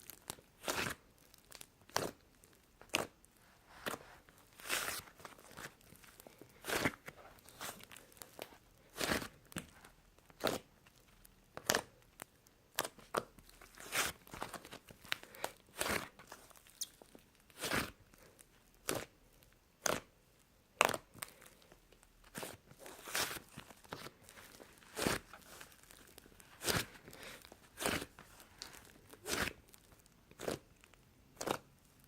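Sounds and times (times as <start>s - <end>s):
slime squelching: 0.0s - 32.0s.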